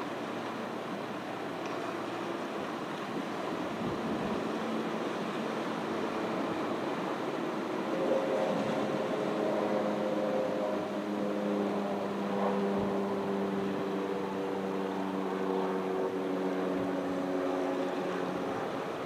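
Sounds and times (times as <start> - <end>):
ocean waves on beach: 0.0 - 19.0.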